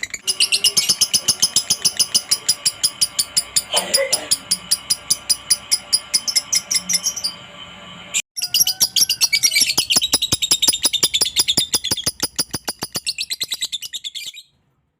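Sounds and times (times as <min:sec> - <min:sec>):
lovebird chattering high chirps: 0:00.0 - 0:07.4, 0:08.4 - 0:14.5.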